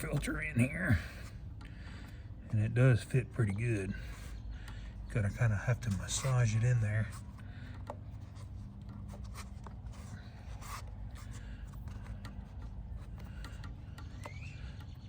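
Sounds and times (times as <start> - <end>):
air filter scraping in housing: 0.0 - 15.0
steady low hum: 0.0 - 15.0.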